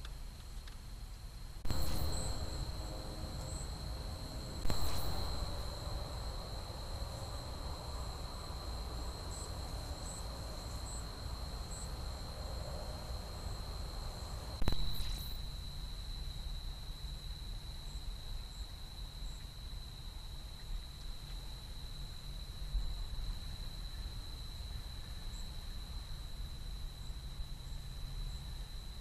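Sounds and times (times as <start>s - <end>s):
crickets trilling: 0.0s - 29.0s
low rumble and hiss: 0.0s - 29.0s.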